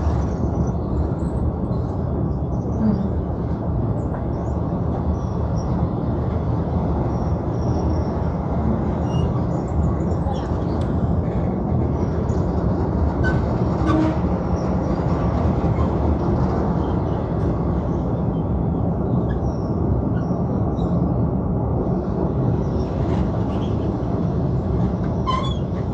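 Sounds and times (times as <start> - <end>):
wheels rumbling on rails: 0.0 - 25.9.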